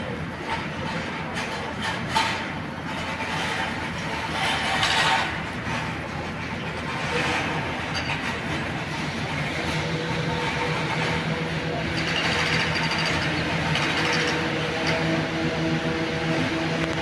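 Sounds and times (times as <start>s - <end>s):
engines and machinery running: 0.0s - 17.0s.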